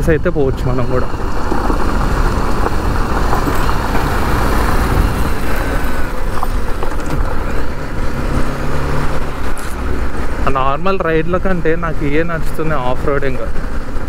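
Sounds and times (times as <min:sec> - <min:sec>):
loud rush of noise: 0:00.0 - 0:14.0.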